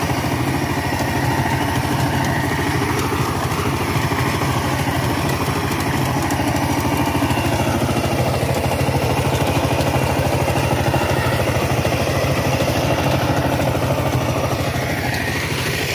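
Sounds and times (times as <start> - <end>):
diesel tiller engine chugging: 0.0 - 15.9.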